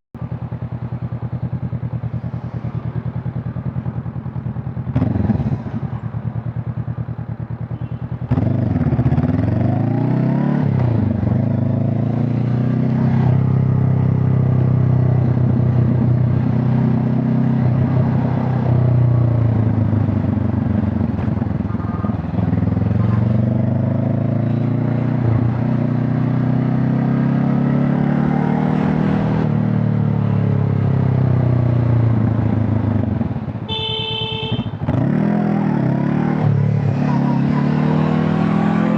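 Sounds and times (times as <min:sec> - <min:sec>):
motorcycle engine revving: 0:00.2 - 0:38.9.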